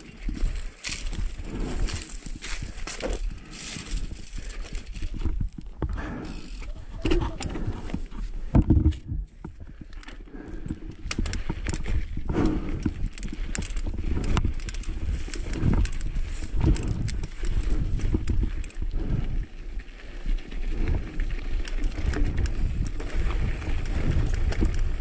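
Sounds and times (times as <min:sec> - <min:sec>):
bike clicks and rattles: 0:00.0 - 0:25.0
bike tyres crunching on dirt: 0:00.0 - 0:25.0.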